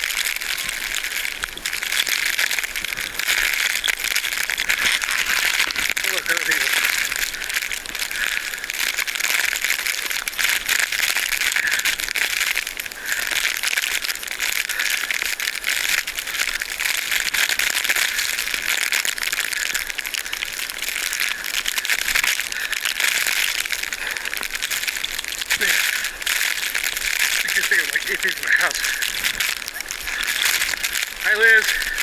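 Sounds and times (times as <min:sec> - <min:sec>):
blizzard wind and snow crackling: 0:00.0 - 0:32.0.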